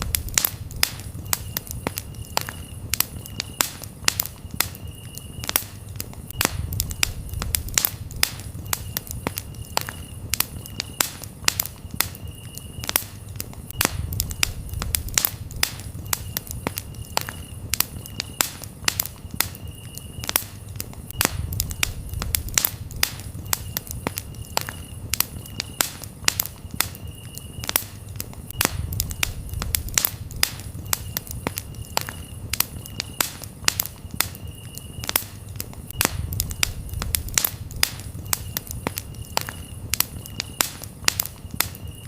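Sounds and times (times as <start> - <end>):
campfire crackling and popping: 0.0 - 42.0
crickets chirping: 0.0 - 42.0.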